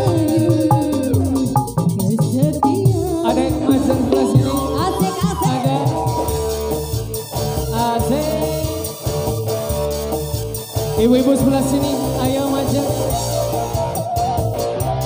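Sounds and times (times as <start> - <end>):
band playing dance music: 0.0 - 15.0
steady drum beat: 0.0 - 15.0.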